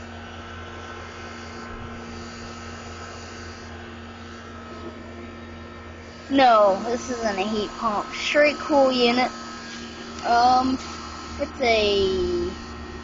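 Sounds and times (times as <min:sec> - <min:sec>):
air conditioning units humming: 0:00.0 - 0:13.0.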